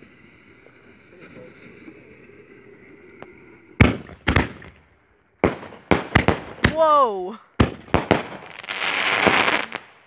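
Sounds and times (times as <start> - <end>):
fireworks launching bangs: 0.0 - 10.0.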